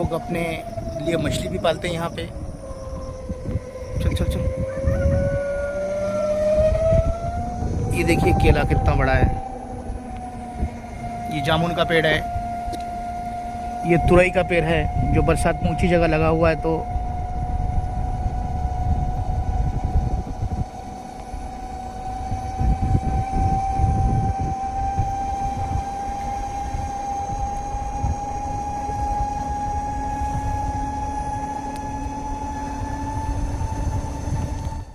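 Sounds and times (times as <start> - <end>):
uneven low rumble: 0.0 - 34.9
vehicle engine whine: 0.0 - 34.9.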